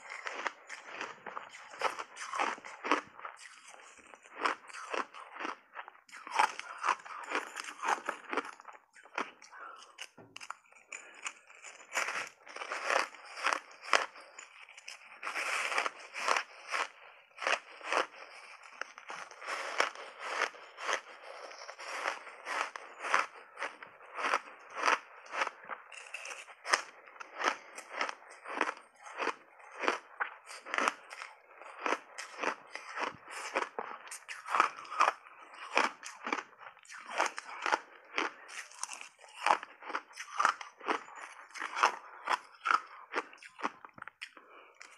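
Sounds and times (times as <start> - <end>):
crunching ice being chewed: 0.0 - 44.9.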